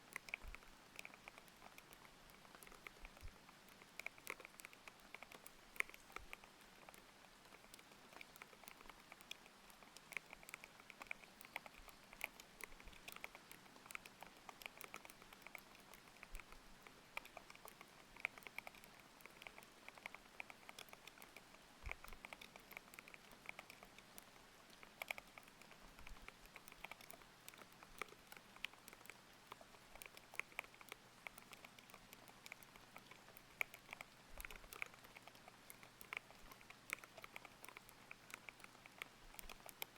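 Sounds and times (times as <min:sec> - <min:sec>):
faint rain: 0:00.0 - 0:39.9.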